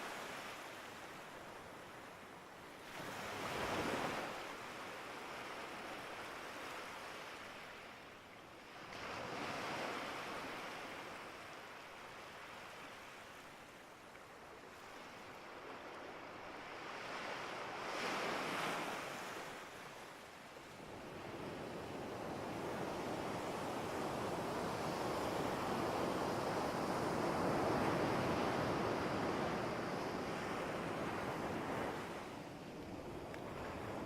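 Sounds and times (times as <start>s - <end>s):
surf washing in and out: 0.0s - 34.0s.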